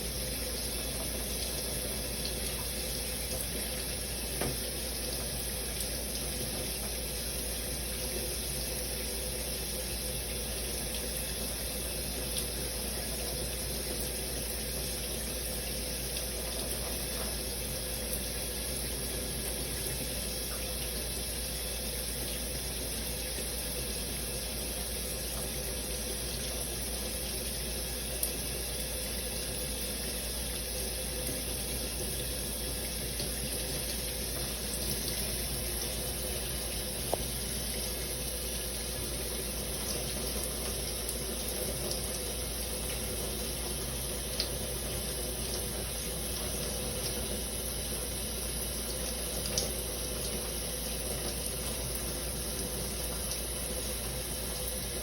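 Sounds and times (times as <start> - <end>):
shower spraying water: 0.0 - 55.0.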